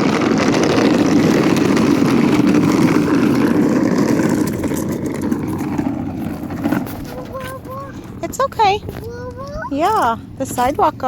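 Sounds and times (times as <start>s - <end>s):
toy truck rolling on concrete: 0.0s - 10.9s.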